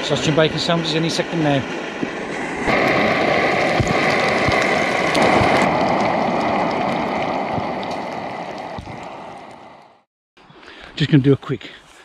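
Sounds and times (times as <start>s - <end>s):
bacon and sausages sizzling: 0.0s - 10.0s.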